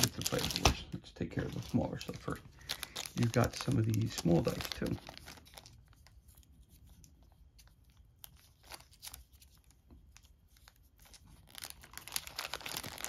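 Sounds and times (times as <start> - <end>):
packaging handling noise: 0.0 - 13.0.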